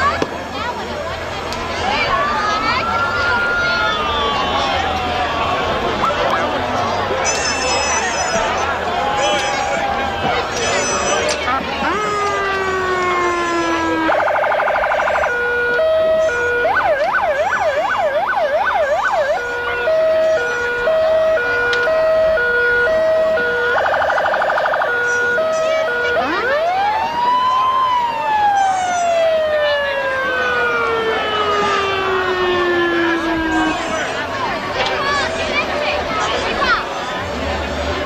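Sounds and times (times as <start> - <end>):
police car sirens: 0.0 - 38.0.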